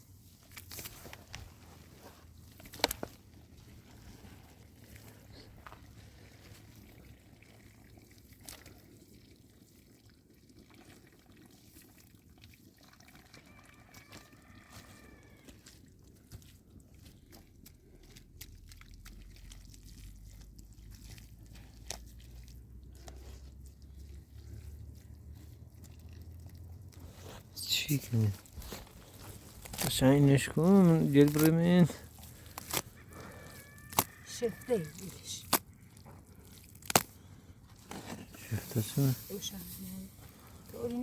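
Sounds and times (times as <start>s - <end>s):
water trickling and dripping: 1.6s - 36.8s.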